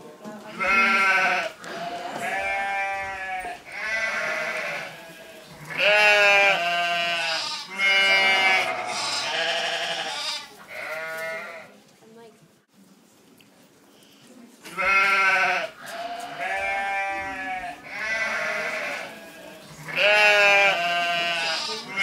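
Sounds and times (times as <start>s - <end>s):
sheep bleating: 0.5s - 11.7s, 14.8s - 22.0s.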